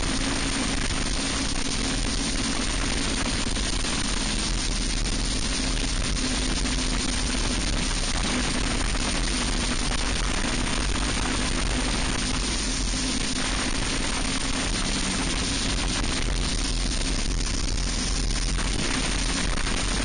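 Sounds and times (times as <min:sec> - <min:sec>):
kart engine at high revs: 0:00.0 - 0:20.0
wind and road noise: 0:00.0 - 0:20.0.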